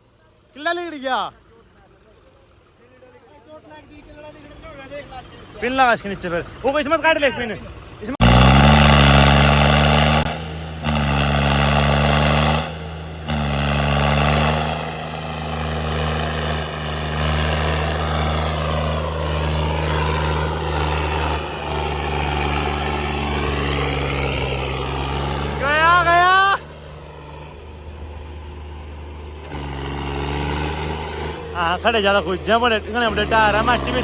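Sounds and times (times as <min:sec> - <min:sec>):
tractor engine at high revs: 0:05.3 - 0:34.0.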